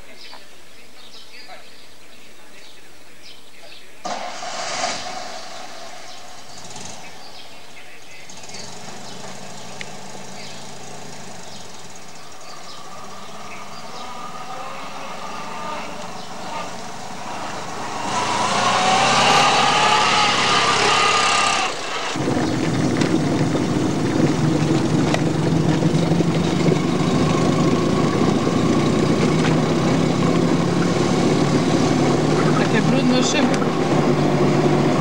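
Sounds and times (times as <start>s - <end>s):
small car engine running: 4.1s - 35.0s.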